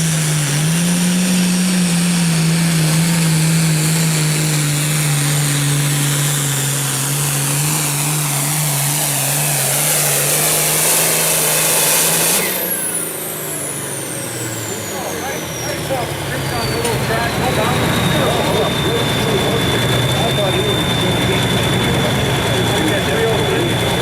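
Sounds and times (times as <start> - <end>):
diesel engine running flat out: 0.0 - 24.0.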